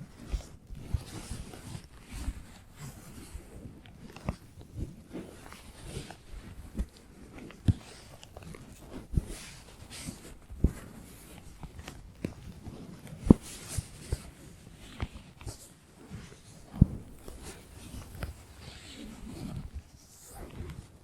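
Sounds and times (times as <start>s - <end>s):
soft hissy scratching: 0.0s - 21.0s.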